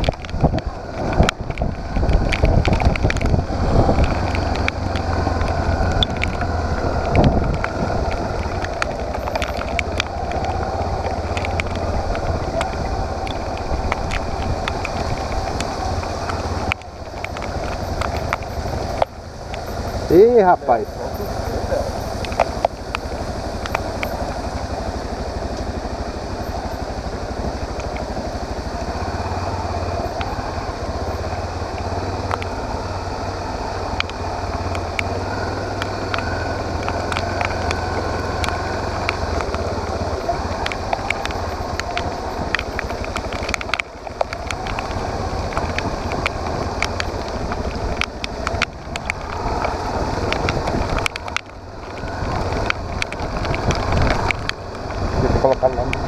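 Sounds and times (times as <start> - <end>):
motorcycle engine running: 0.0 - 56.0
sharp ticks: 0.0 - 56.0
wind rushing over microphone: 0.0 - 56.0.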